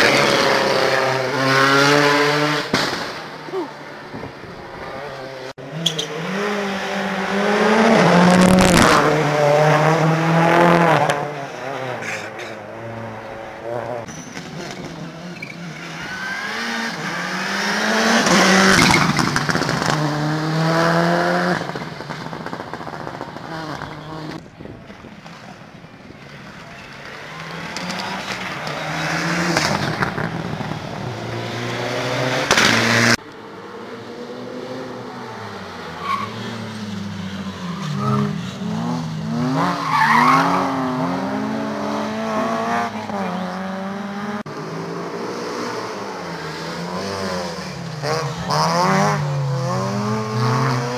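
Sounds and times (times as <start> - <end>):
rally cars revving past: 0.0 - 3.2, 4.7 - 24.4, 27.0 - 50.9.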